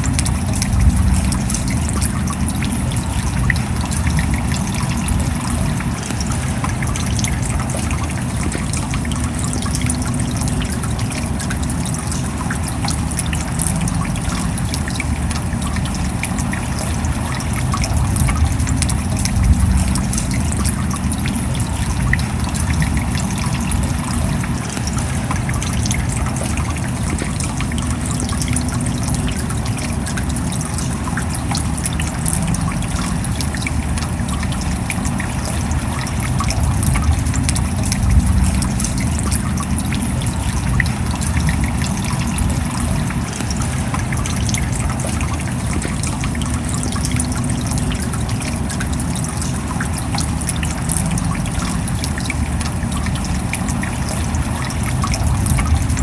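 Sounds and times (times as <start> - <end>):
steady rain drops ticking: 0.0 - 56.0
water trickling: 0.0 - 56.0.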